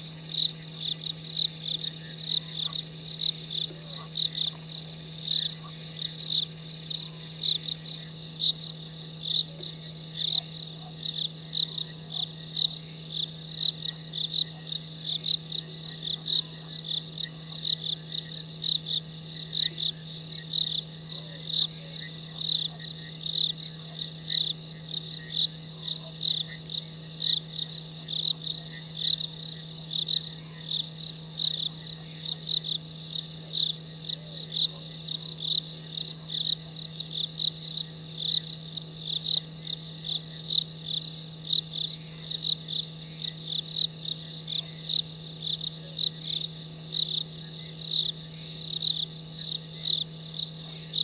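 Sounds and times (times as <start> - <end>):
constant low hum: 0.0 - 51.0
insect trill: 0.0 - 51.0.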